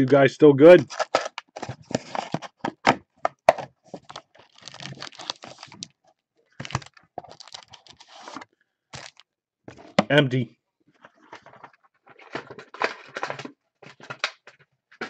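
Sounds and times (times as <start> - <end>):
card packs rustling and crinkling: 0.0 - 8.4, 9.0 - 9.2, 11.0 - 15.0.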